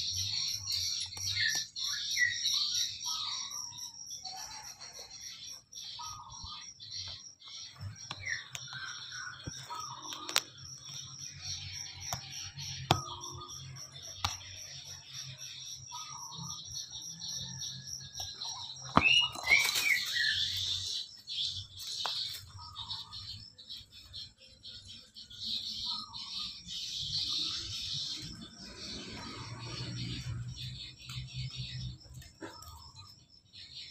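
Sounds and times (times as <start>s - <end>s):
pulsing high-pitched chirping: 0.0s - 33.9s.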